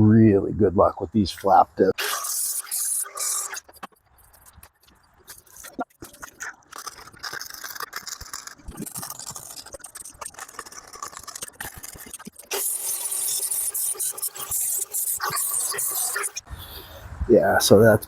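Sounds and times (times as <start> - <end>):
angle grinder grinding steel: 2.0 - 16.5.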